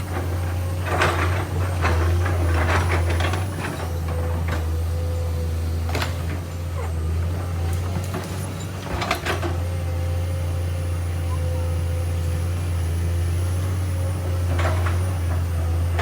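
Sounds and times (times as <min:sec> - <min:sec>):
excavator diesel engine droning: 0:00.0 - 0:16.0.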